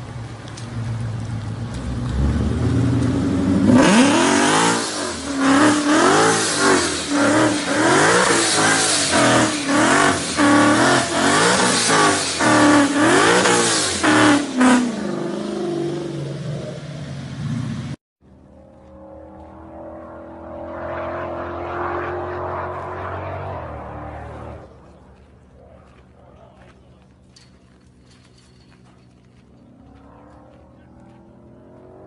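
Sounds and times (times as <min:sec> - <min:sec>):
car engine revving: 0:00.0 - 0:26.2, 0:27.2 - 0:32.0.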